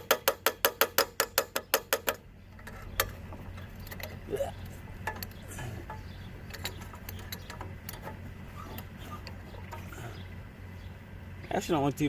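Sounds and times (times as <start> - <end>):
steady low hum: 1.0 - 12.0.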